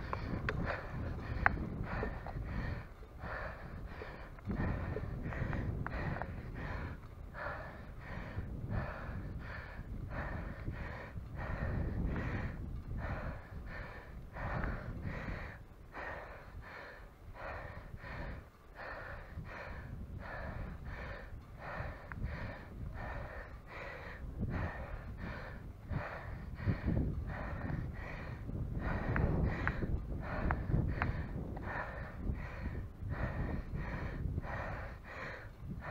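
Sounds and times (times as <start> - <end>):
man panting heavily: 0.0 - 35.9
steady low rumble: 0.0 - 35.9.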